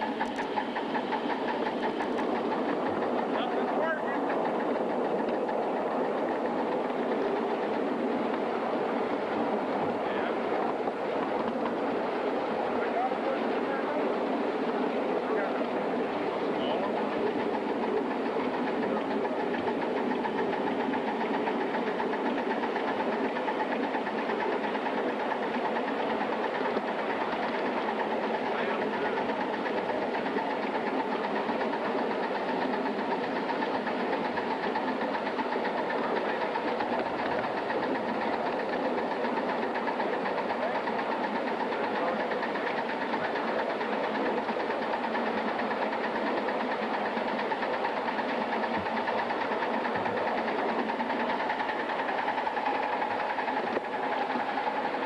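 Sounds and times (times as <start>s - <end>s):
steam locomotive mechanical noise: 0.0s - 55.0s.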